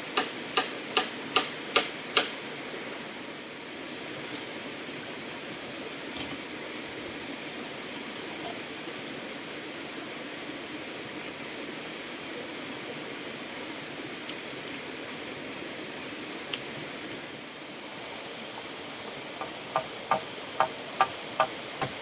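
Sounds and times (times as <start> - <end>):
water rushing: 2.4 - 22.0.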